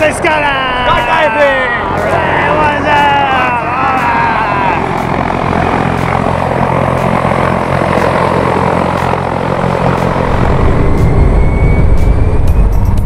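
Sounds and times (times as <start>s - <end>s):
propeller aircraft engine drone: 0.0s - 13.0s
propeller wash rushing: 0.0s - 13.0s.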